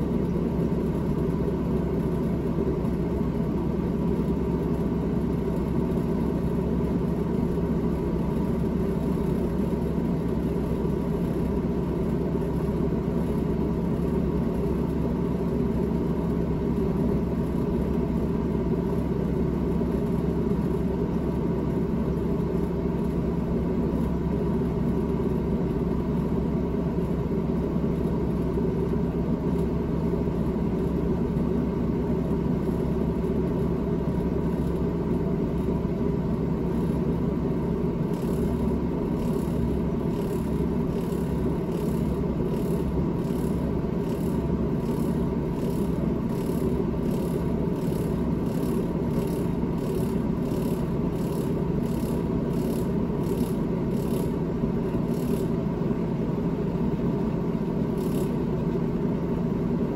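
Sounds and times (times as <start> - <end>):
refrigerator fan humming: 0.0 - 59.9.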